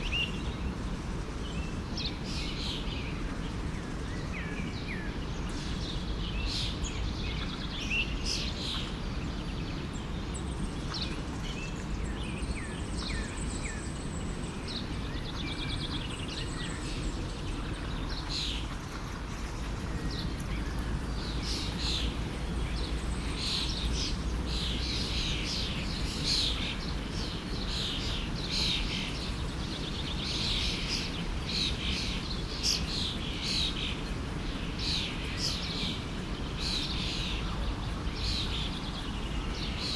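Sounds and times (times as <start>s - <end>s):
forest stream rushing: 0.0s - 39.9s
songbirds chirping and singing: 0.0s - 39.9s.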